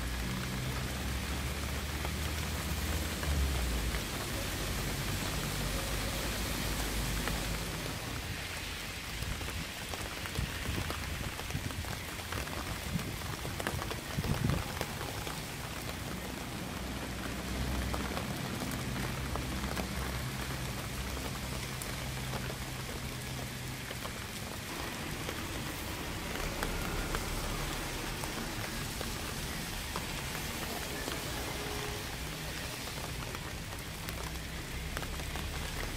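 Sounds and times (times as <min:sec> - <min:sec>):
rain hiss: 0:00.0 - 0:35.9
raindrops tapping: 0:00.0 - 0:35.9.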